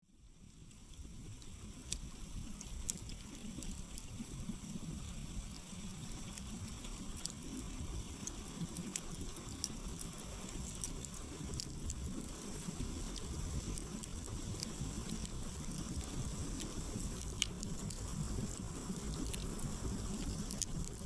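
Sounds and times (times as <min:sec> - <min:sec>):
campfire crackling and popping: 0:01.0 - 0:21.0
fire low rumble: 0:02.4 - 0:21.0.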